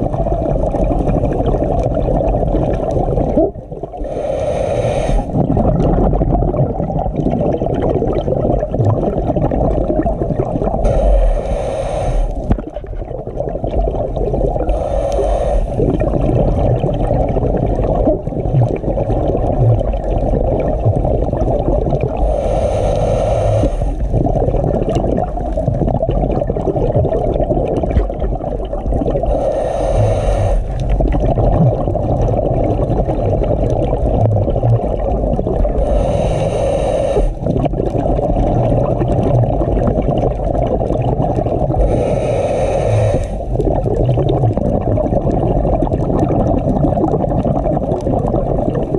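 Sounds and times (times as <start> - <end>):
low underwater rumble: 0.0 - 48.9
scuba exhalation bubbles: 0.0 - 48.9.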